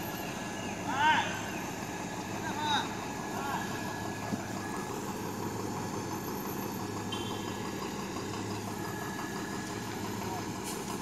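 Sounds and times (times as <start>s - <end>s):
heavy vehicle engine humming: 0.0s - 11.0s.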